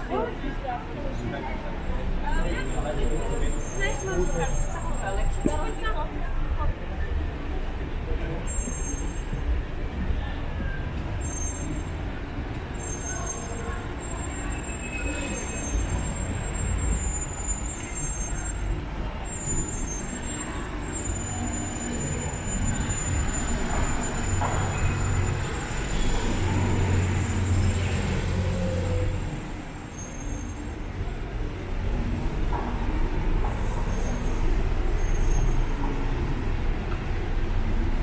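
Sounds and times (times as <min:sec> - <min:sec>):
road traffic noise: 0:00.0 - 0:38.0.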